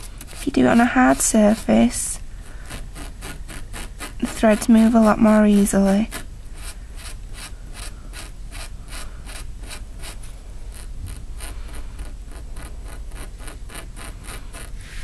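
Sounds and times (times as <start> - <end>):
scratching strokes on fabric: 0.0 - 15.0.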